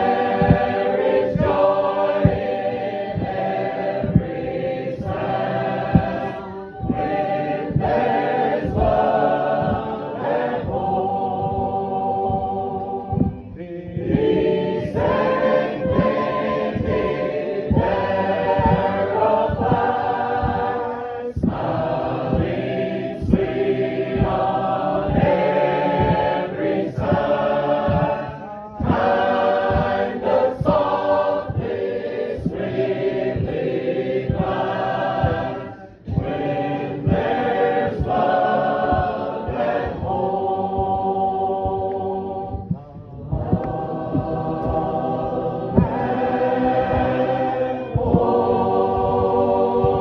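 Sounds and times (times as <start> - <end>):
group singing a hymn: 0.0 - 50.0.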